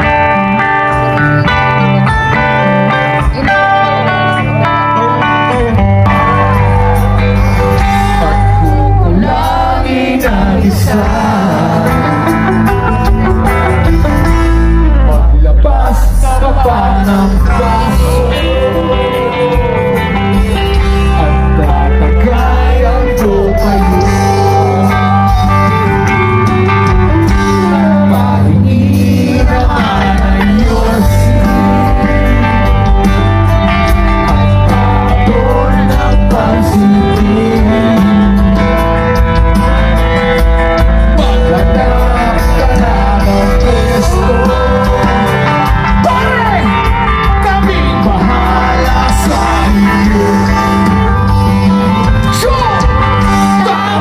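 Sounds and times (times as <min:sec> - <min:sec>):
live rock band playing: 0:00.0 - 0:54.0
vocalist singing into a microphone: 0:00.0 - 0:54.0.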